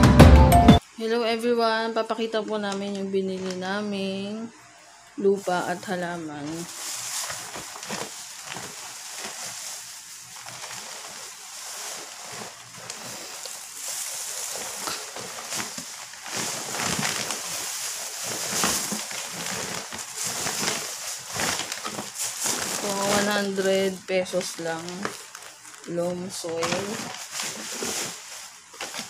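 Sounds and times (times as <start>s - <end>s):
plastic bags rustling: 2.4s - 4.2s, 5.2s - 29.0s.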